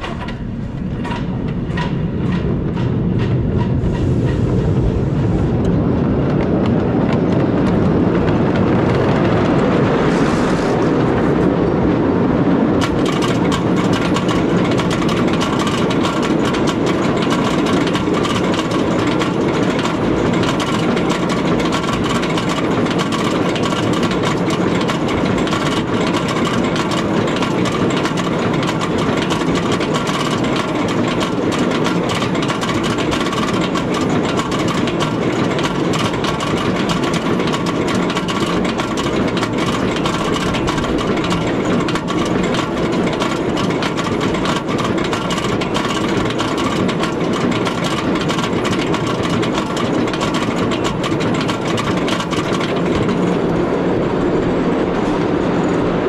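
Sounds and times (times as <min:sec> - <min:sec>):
roller coaster train rumbling: 0:00.0 - 0:56.0.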